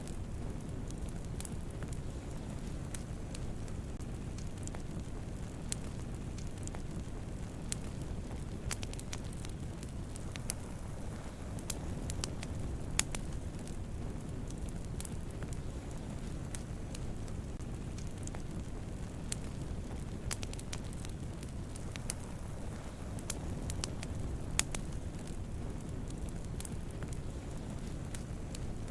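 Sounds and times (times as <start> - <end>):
campfire crackles and pops: 0.0 - 28.9
low rush of flames: 0.0 - 28.9.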